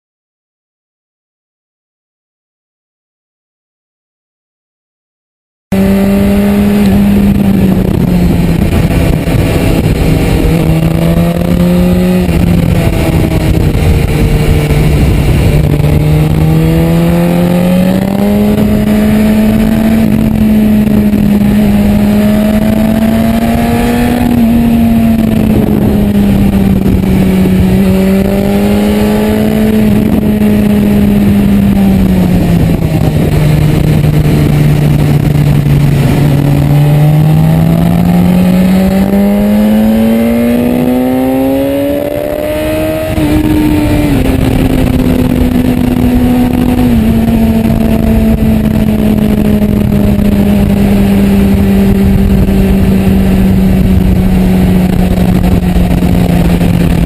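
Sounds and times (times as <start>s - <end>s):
motorcycle engine running: 5.7s - 57.0s
wind rush: 5.7s - 57.0s.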